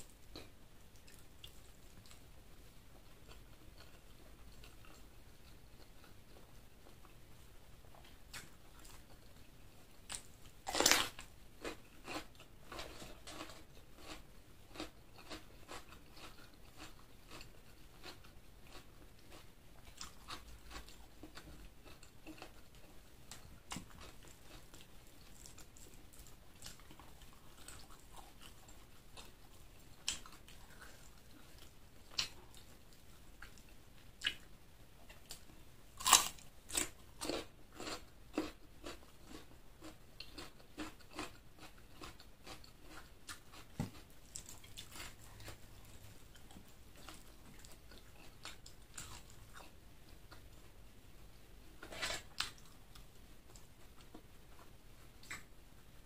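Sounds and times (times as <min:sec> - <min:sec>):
person chewing food: 0:00.1 - 0:07.2, 0:07.9 - 0:50.8, 0:51.8 - 0:55.5.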